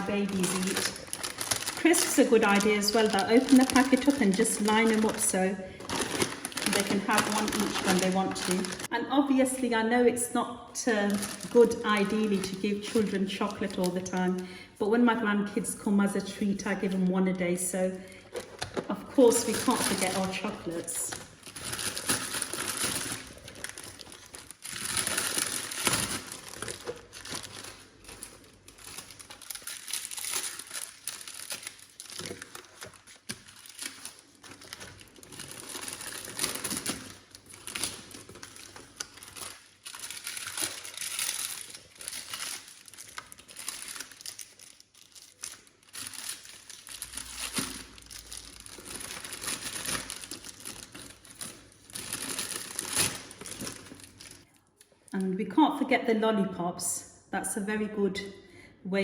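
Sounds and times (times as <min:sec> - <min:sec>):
plastic wrappers crinkling: 0:00.0 - 0:10.0, 0:10.8 - 0:55.2.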